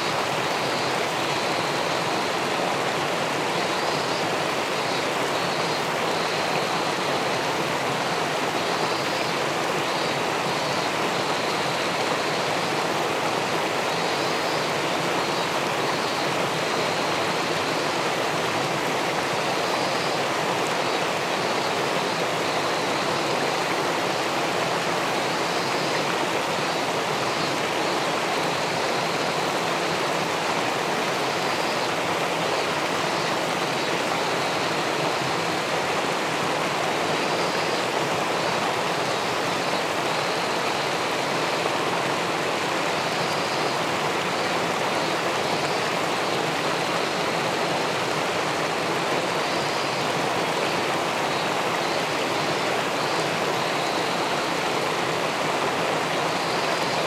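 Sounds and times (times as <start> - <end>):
river water rushing below a weir: 0.0 - 57.0.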